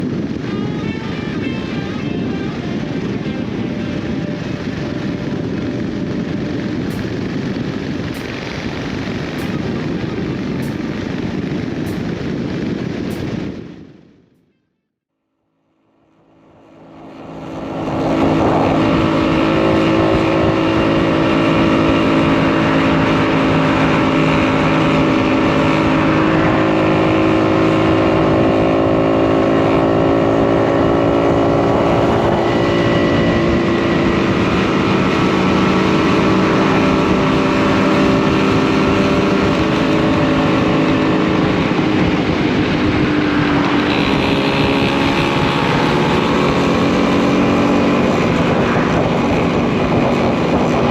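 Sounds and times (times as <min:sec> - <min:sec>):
two-stroke motorcycle engine running: 0:00.0 - 0:14.0, 0:15.8 - 0:50.9.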